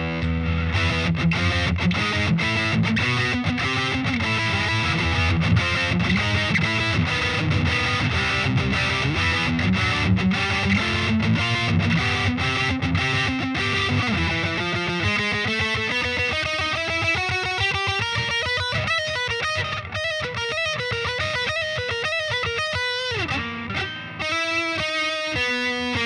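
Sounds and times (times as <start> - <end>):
distorted electric guitar riffing: 0.0 - 26.0.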